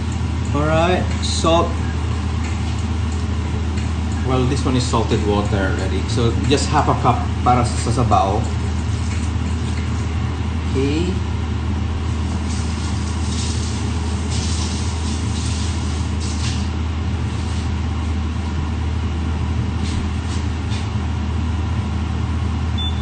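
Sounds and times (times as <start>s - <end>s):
constant low hum: 0.0s - 23.0s.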